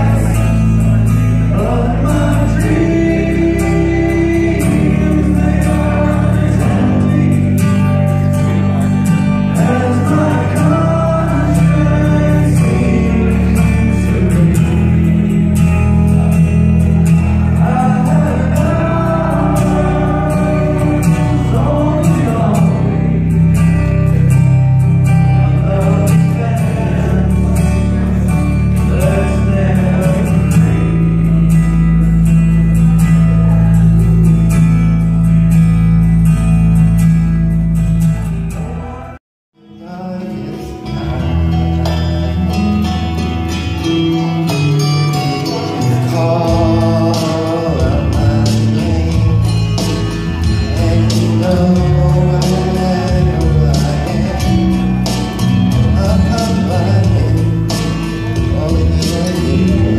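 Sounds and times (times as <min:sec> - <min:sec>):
man singing into a microphone: 0:00.0 - 0:34.6, 0:38.2 - 0:59.9
backing track with strong bass: 0:00.0 - 0:59.9.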